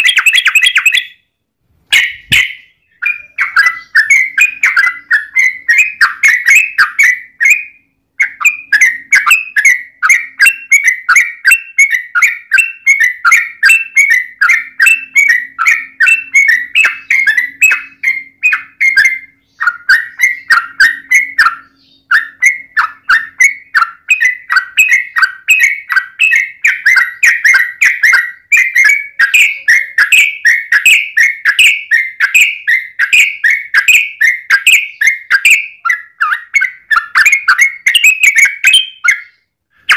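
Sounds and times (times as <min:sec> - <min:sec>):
bird singing chattering notes: 0:00.0 - 0:01.3, 0:01.9 - 0:39.9.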